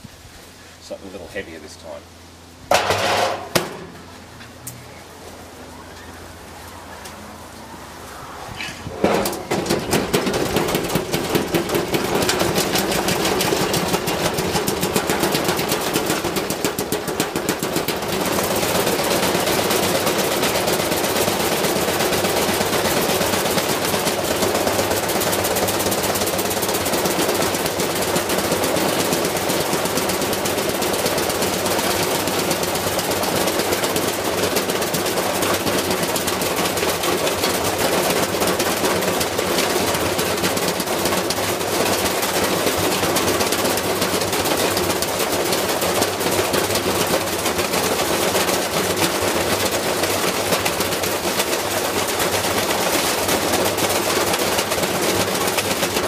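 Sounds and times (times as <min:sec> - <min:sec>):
washing machine banging and rattling: 0:02.7 - 0:04.1, 0:08.9 - 0:56.0.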